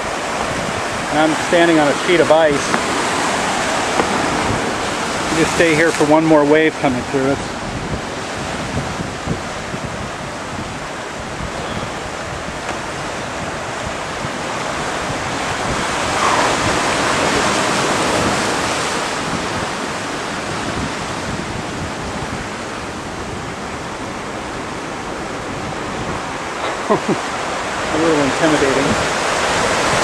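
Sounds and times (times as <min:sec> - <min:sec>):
ocean surf rushing through rocks: 0:00.0 - 0:30.0.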